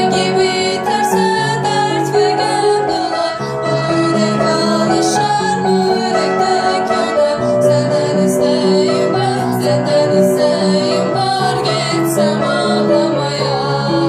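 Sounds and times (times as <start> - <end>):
upright piano playing: 0.0 - 14.0.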